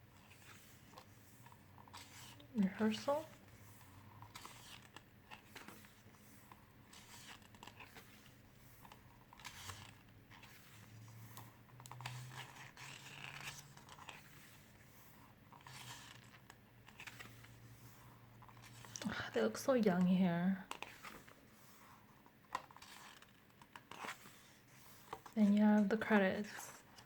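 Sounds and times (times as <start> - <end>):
pages of a photobook turning: 0.1 - 20.1, 20.7 - 27.0.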